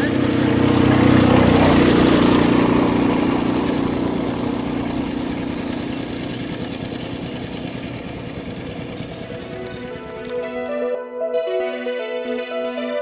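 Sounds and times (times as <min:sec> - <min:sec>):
power tiller engine running: 0:00.0 - 0:10.8.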